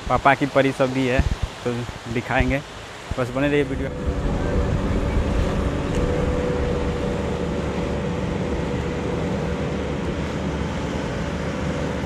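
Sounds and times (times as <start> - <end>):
surf: 0.0 - 12.0
wind rumble on microphone: 1.1 - 12.0.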